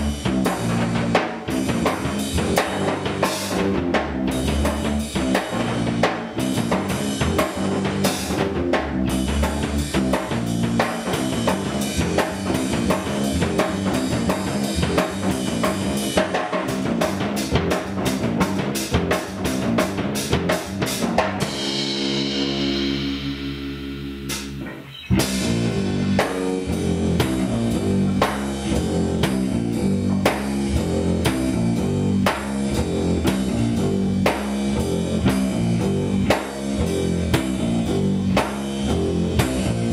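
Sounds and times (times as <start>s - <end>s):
driving drum kit: 0.0s - 39.9s
rock guitar riff: 0.0s - 39.9s.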